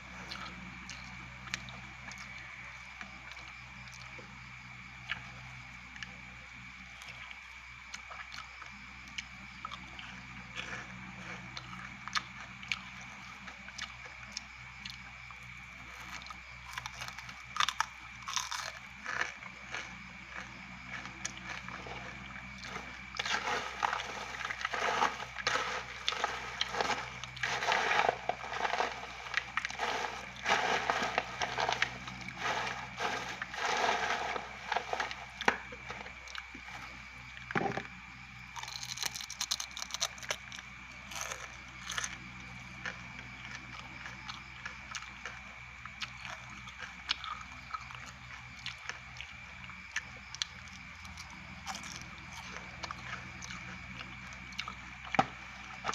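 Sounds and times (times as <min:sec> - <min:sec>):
crunchy chewing: 0:00.0 - 0:55.9.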